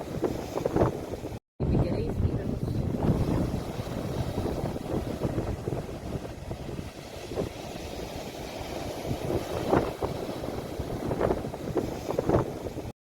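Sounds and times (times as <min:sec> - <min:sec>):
sea waves rumbling: 0:00.0 - 0:12.9
wind buffeting microphone: 0:00.0 - 0:12.9.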